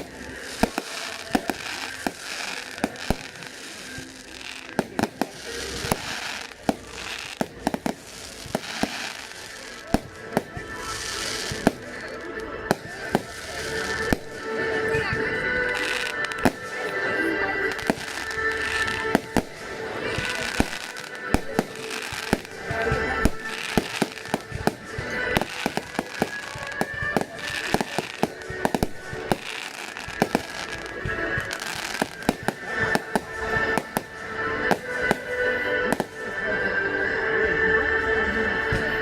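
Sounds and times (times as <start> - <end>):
fireworks bangs and crackles: 0.0 - 36.6
music playing: 0.0 - 39.0.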